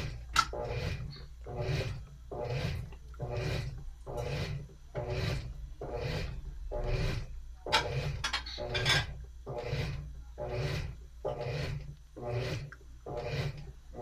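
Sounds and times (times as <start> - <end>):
washing machine agitator swishing: 0.0 - 14.0
washing machine motor hum: 0.0 - 14.0.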